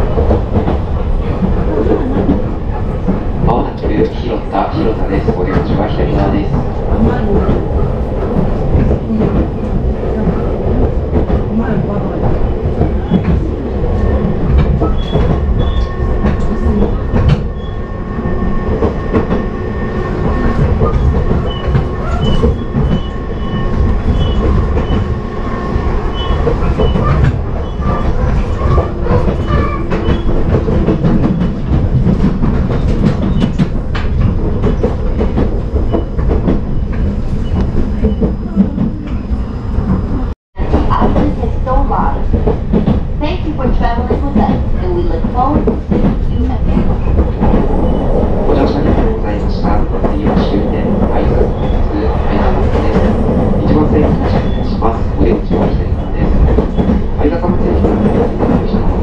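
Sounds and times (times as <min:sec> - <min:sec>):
rail clicks: 0:00.0 - 0:59.0
train rumbling: 0:00.0 - 0:59.0.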